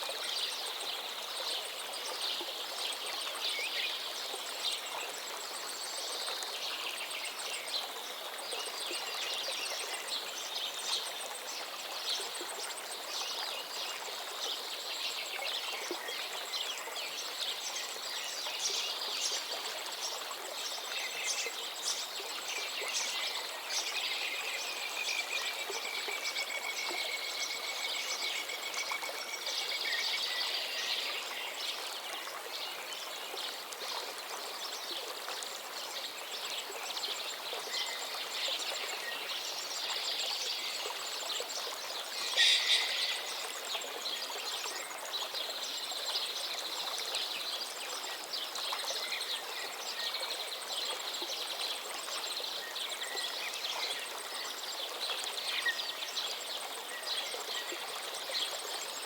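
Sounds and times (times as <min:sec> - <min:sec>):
flowing water: 0:00.0 - 0:59.0.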